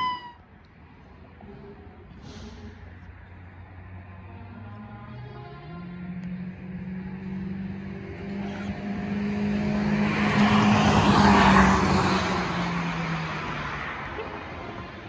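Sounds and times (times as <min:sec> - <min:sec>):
low engine hum: 0:00.0 - 0:15.0
vehicle passing by: 0:00.9 - 0:15.0.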